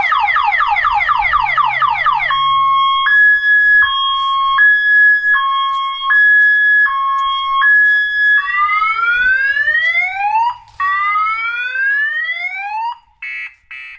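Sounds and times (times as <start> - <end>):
electronic siren alarm: 0.0 - 13.9.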